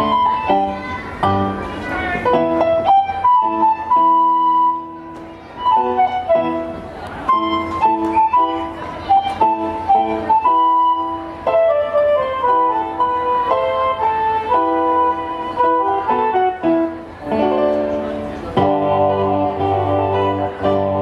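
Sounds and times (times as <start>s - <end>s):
instrumental music: 0.0s - 21.0s.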